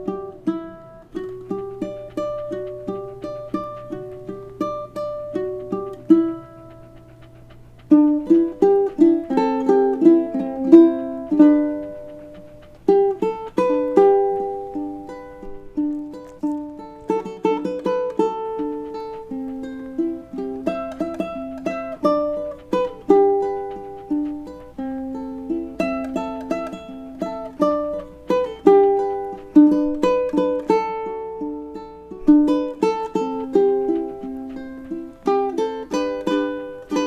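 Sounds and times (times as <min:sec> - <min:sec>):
solo ukulele melody: 0:00.0 - 0:06.7, 0:08.0 - 0:11.9, 0:13.0 - 0:37.0.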